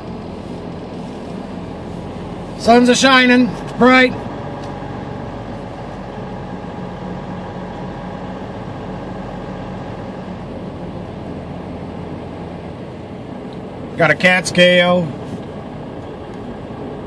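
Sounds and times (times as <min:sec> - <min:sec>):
diesel truck engine hum: 0:00.0 - 0:17.0
road noise: 0:00.0 - 0:17.0.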